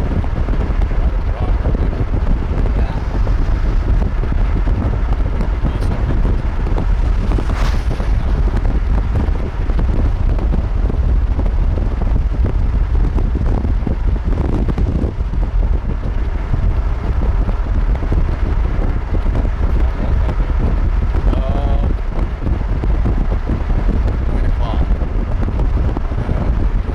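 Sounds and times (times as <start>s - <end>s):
wind buffeting the microphone: 0.0s - 26.9s.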